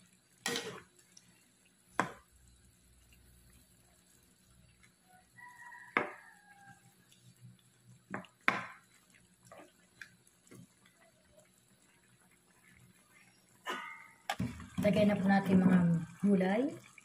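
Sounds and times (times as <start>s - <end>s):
spatula stirring noodles in broth: 0.0s - 16.2s.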